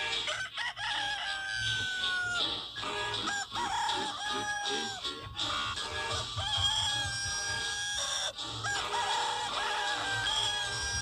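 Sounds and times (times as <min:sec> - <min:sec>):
rooster crowing: 0:00.1 - 0:11.0.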